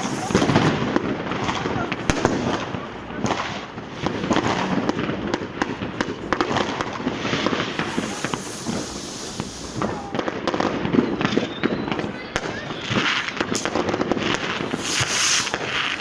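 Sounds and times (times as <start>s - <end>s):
crowd voices: 0.0s - 16.0s
fireworks and firecrackers banging: 0.0s - 16.0s
hissing rush of fireworks: 0.0s - 16.0s.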